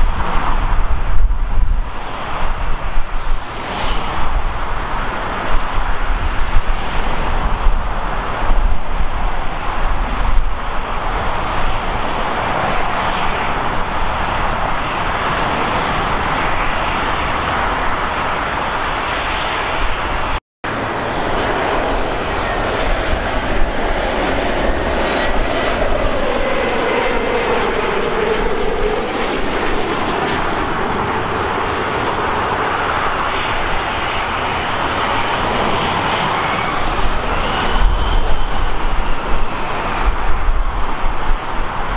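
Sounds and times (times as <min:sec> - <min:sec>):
airliner engines rushing: 0:00.0 - 0:41.9.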